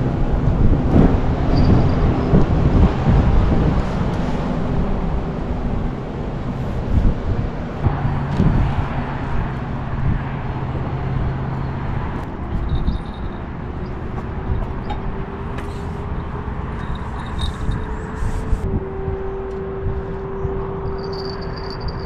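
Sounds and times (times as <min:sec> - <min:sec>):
distant engine hum: 0:00.0 - 0:22.0
wind rumbling on microphone: 0:00.0 - 0:22.0.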